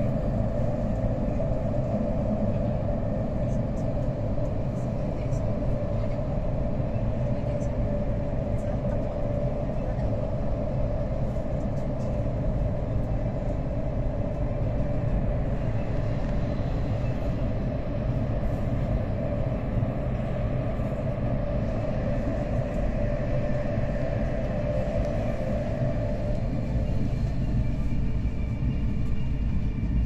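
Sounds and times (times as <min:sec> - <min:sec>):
train rumble and rolling noise: 0:00.0 - 0:30.0.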